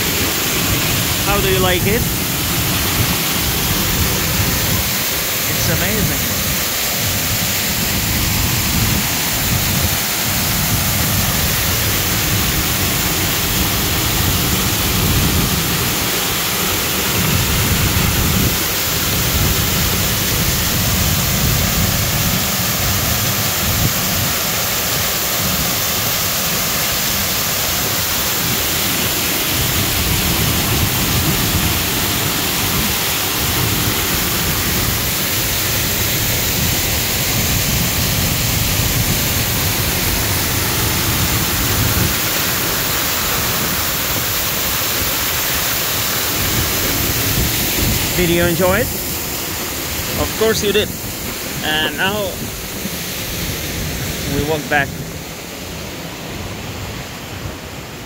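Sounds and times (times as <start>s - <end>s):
waterfall rushing: 0.0s - 58.0s
wind buffeting microphone: 0.1s - 25.8s, 28.3s - 45.3s, 45.9s - 57.5s.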